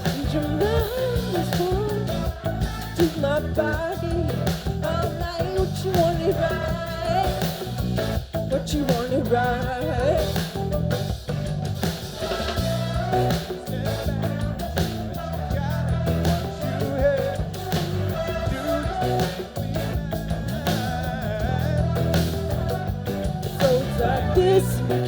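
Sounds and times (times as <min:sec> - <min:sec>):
person singing: 0:00.0 - 0:07.8, 0:12.2 - 0:25.0
live pop band music: 0:00.0 - 0:25.0.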